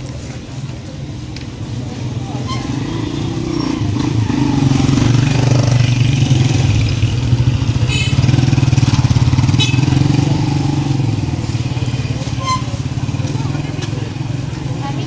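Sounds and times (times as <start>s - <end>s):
motorcycle engines puttering: 1.9s - 15.0s.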